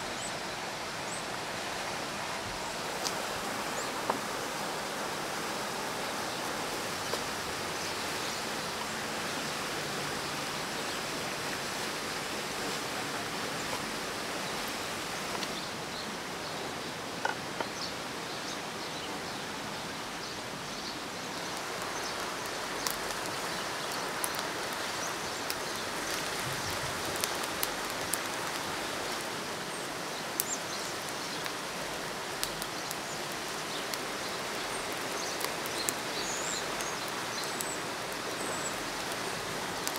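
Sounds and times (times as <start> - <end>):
outdoor air hiss from trees: 0.0 - 39.9.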